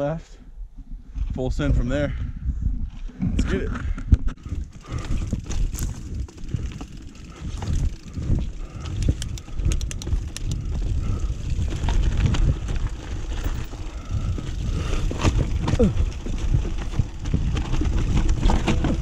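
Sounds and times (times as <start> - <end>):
wind rumble on microphone: 0.0 - 19.0
bike clicks and rattles: 3.7 - 19.0.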